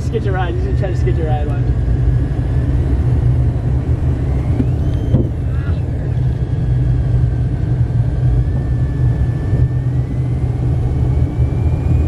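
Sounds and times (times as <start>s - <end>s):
car cabin rumble: 0.0s - 11.1s.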